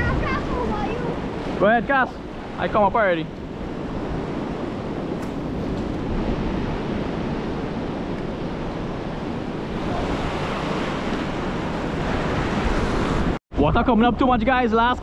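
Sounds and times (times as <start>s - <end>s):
ocean surf washing: 0.0s - 13.4s
wind buffeting microphone: 0.0s - 15.0s.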